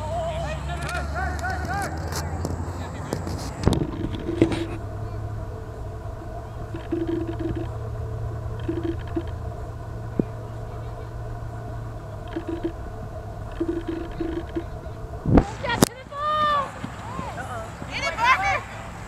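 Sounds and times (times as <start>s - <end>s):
distant players shouting: 0.0s - 19.0s
steady low hum: 0.0s - 19.0s.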